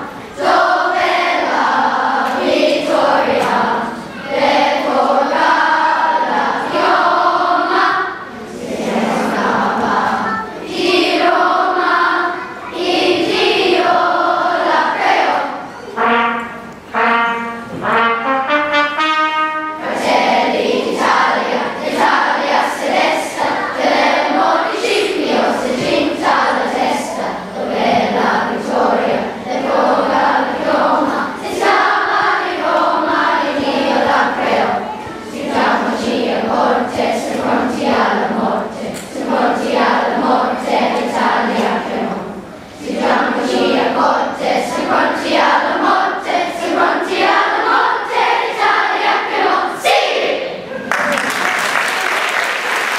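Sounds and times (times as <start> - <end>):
children's choir singing: 0.0 - 52.9.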